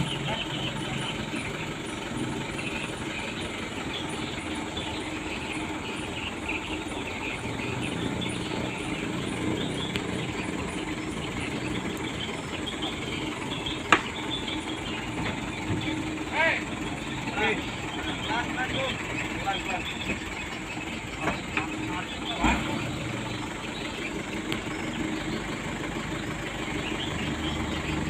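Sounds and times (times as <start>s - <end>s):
insects chirping: 0.0s - 28.0s
truck engine running: 0.0s - 28.0s.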